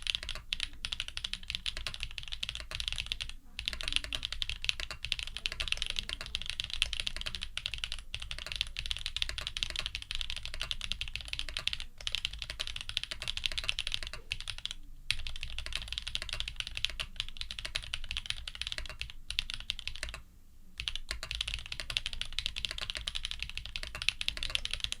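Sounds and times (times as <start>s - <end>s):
mechanical keyboard typing: 0.0s - 20.2s, 20.8s - 25.0s.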